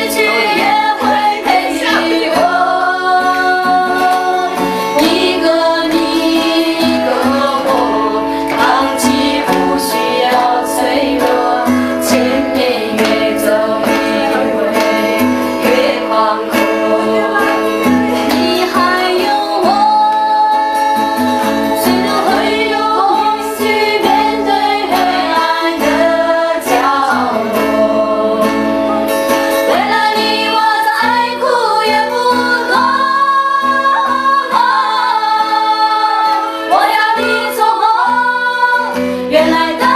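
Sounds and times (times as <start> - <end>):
strummed acoustic guitar: 0.0 - 39.9
women singing together: 0.0 - 39.9.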